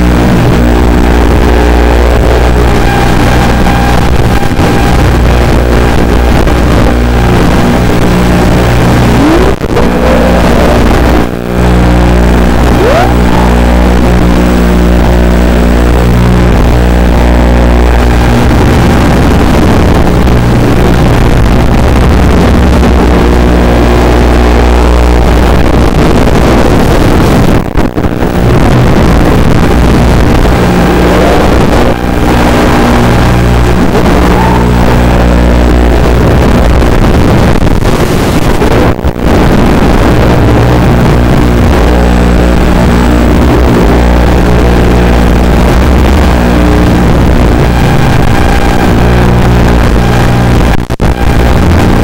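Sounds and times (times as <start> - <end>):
drone motors buzzing: 0.0 - 52.0.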